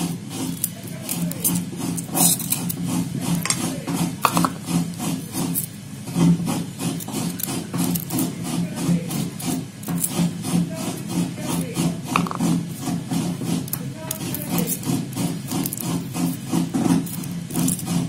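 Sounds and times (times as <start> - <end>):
knife scraping garlic skins: 0.0 - 18.0.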